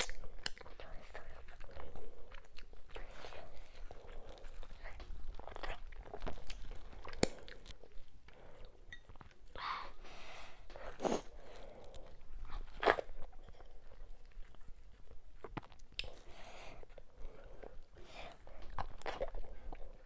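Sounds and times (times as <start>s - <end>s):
chewing and wet mouth sounds: 0.0s - 20.0s.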